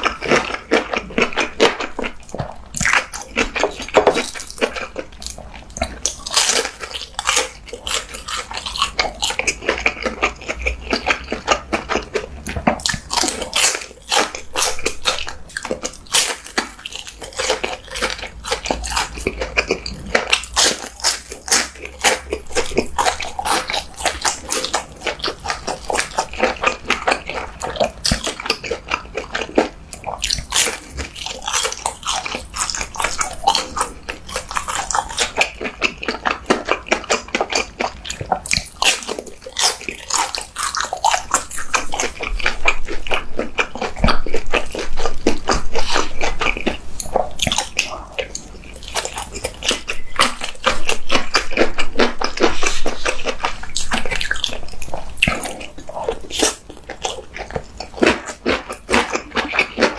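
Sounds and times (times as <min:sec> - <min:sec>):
chewing crunchy fried food: 0:00.0 - 0:59.9.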